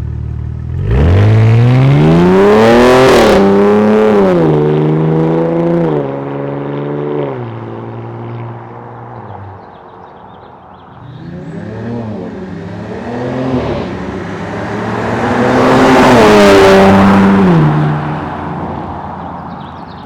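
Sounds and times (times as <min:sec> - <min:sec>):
car engine accelerating: 0:00.2 - 0:09.7, 0:10.9 - 0:20.0.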